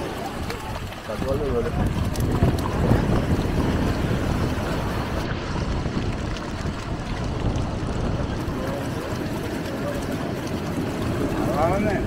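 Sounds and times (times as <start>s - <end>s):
surf washing on beach: 0.0s - 12.0s
wind rumbling on microphone: 0.0s - 12.0s.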